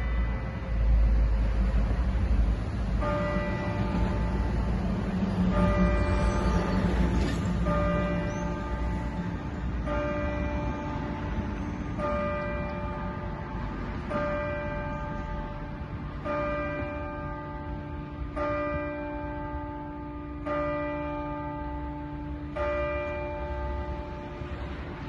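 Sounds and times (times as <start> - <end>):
church clock bell striking: 0.0 - 0.9, 2.9 - 25.0.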